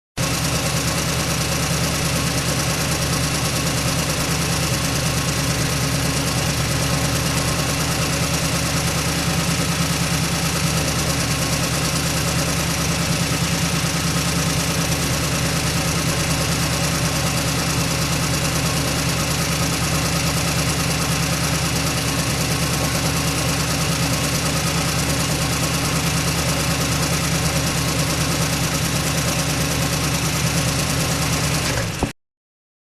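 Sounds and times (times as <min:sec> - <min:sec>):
truck engine idling: 0:00.2 - 0:32.1.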